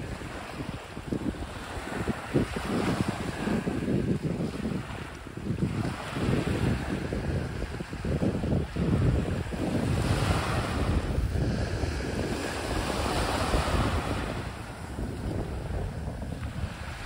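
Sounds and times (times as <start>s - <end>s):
small waves breaking on beach: 0.0s - 17.0s
wind buffeting microphone: 0.0s - 17.0s.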